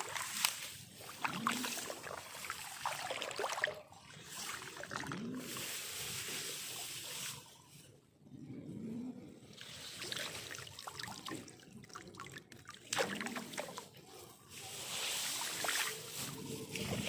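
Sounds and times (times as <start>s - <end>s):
water splashing and trickling: 0.0s - 7.6s, 9.4s - 17.0s.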